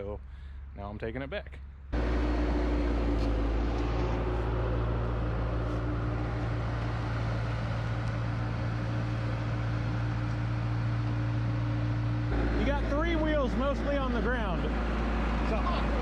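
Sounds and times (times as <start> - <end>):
vehicle engine running steadily: 1.5 - 16.0.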